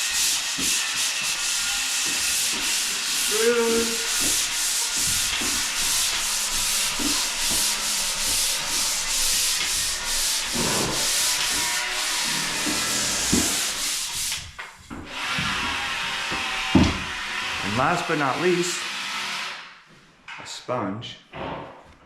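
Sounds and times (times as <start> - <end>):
sandpaper scrubbing drywall: 0.0 - 19.7.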